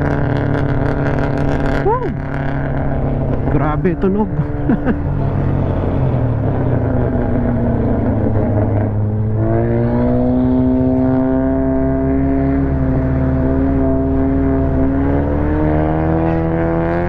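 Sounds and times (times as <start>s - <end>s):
car engine and exhaust running: 0.0s - 17.0s.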